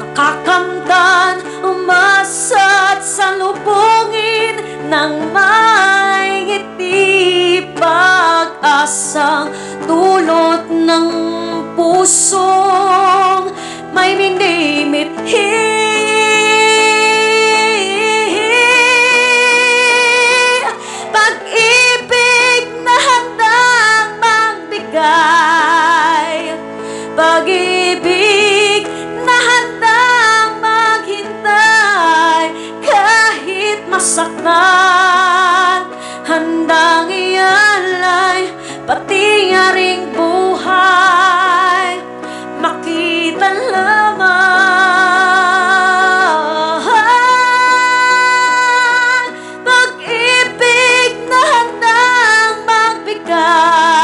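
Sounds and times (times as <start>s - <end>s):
instrumental accompaniment: 0.0s - 54.0s
woman singing with vibrato: 0.0s - 54.0s.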